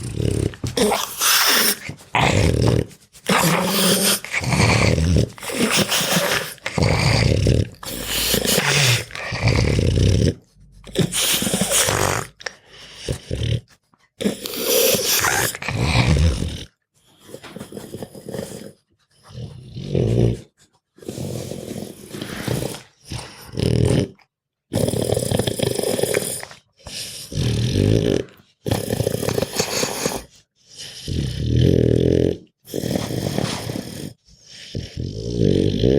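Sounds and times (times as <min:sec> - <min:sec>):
dog snoring and grunting: 0:00.0 - 0:35.9.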